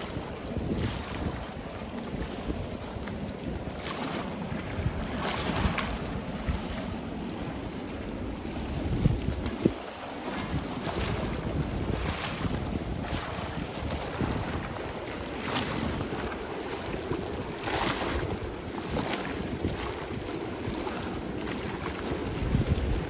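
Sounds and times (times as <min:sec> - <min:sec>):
sea waves washing onto beach: 0:00.0 - 0:23.0
wind buffeting microphone: 0:00.0 - 0:23.0.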